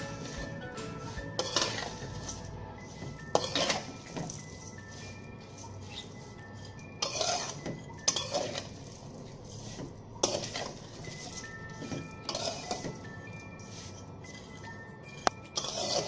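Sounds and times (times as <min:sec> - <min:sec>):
metal utensil scraping a wok: 0:00.0 - 0:14.6, 0:15.5 - 0:16.0.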